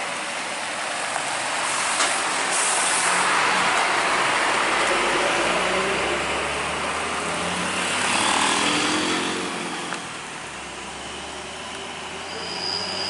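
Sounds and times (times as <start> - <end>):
vehicle passing on road: 0.7 - 13.0.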